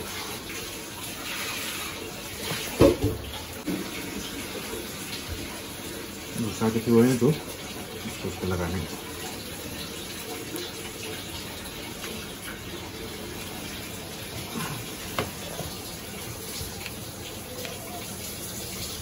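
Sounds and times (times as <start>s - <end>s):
water running from a tap: 0.0s - 19.0s.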